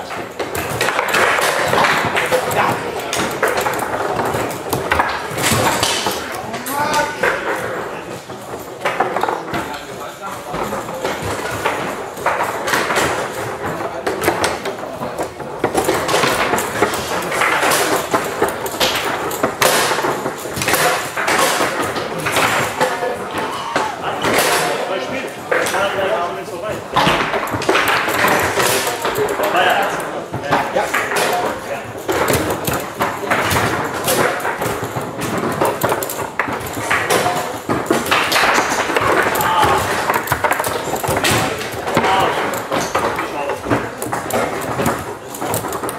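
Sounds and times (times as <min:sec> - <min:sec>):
foosball knocks and clacks: 0:00.0 - 0:45.9
table football clatter: 0:00.0 - 0:45.9.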